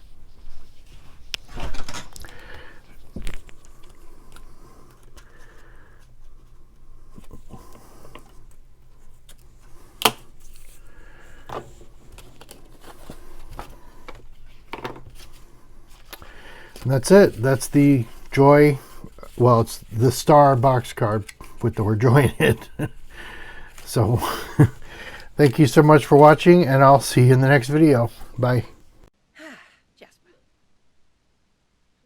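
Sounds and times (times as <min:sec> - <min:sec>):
paper rustling: 0:00.0 - 0:28.9.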